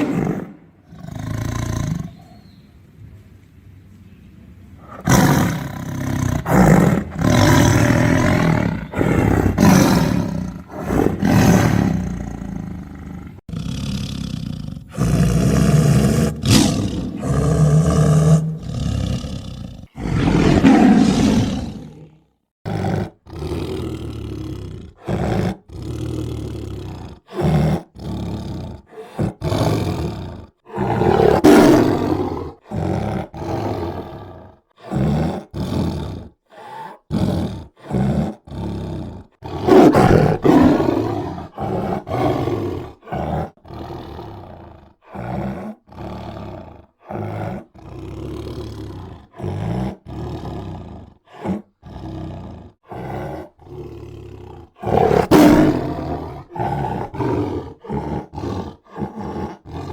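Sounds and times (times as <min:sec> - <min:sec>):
tiger roaring: 0:00.0 - 0:02.4, 0:04.8 - 0:59.9.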